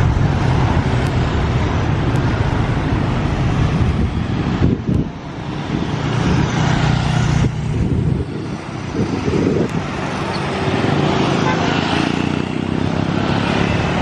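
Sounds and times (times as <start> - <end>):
jet airliner engine rush: 0.0 - 14.0.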